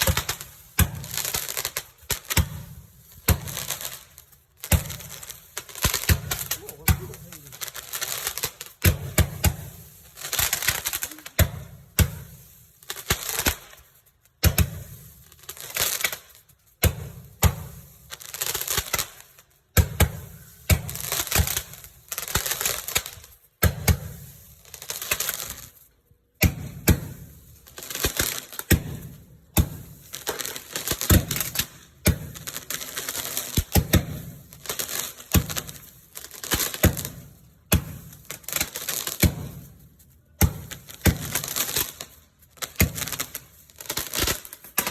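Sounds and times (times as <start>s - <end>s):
firework pops and crackling: 0.0s - 44.9s.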